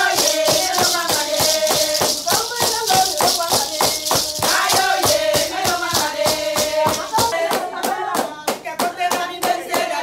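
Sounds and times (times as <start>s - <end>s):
handclaps: 0.0s - 10.0s
women singing: 0.0s - 10.0s.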